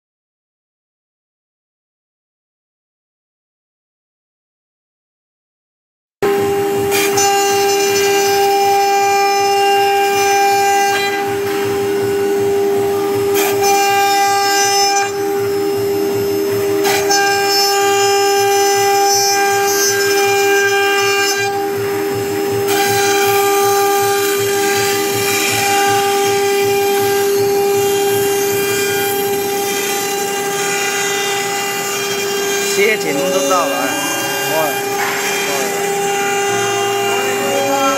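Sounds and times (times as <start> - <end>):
router spindle whine: 6.2 - 37.9
rough wood cutting noise: 6.9 - 37.9.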